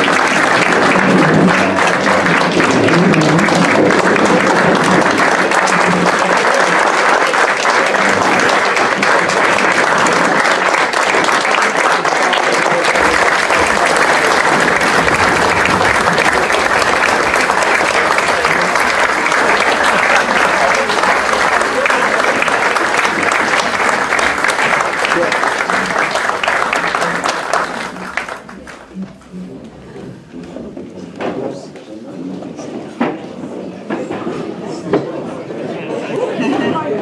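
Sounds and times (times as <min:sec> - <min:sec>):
audience applause: 0:00.0 - 0:30.6.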